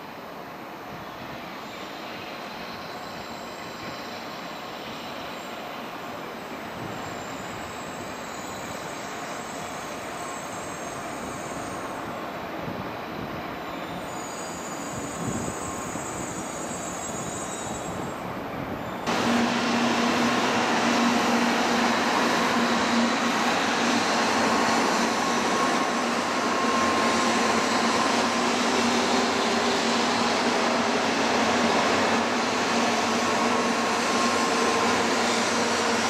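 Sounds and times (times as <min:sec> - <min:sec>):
train running noise: 0:00.0 - 0:36.0
thin high brake squeal: 0:01.0 - 0:06.0, 0:06.8 - 0:12.2, 0:13.0 - 0:19.0, 0:22.3 - 0:36.0.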